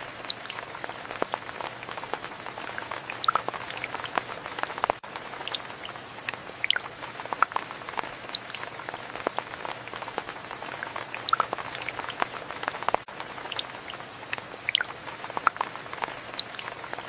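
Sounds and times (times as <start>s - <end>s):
rain drops pattering: 0.0s - 17.0s.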